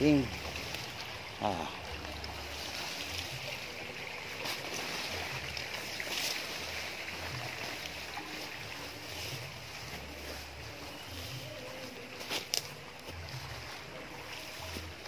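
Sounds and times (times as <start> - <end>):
leaves and stems rustling: 0.0 - 15.0.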